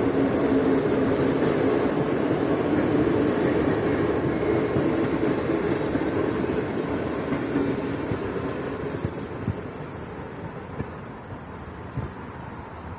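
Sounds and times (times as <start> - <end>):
passenger train passing: 0.0 - 12.9.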